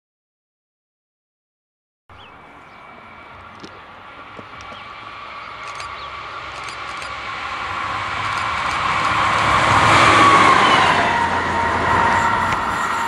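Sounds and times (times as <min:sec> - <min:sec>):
diesel locomotive passing: 0:02.1 - 0:13.0.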